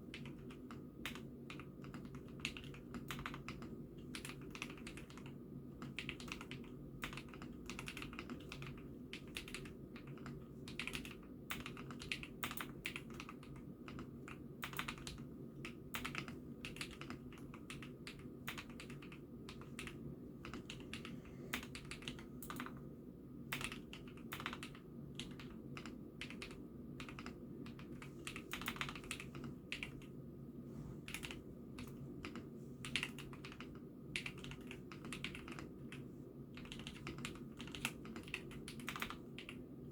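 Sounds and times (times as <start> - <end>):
mechanical keyboard typing: 0.0 - 22.8, 23.5 - 30.1, 31.1 - 39.6.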